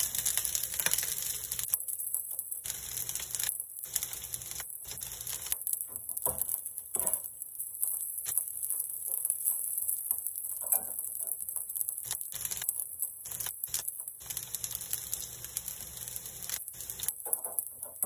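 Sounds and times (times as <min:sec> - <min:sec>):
egg cracking: 0:00.0 - 0:18.0
rice sizzling on griddle: 0:00.0 - 0:18.0.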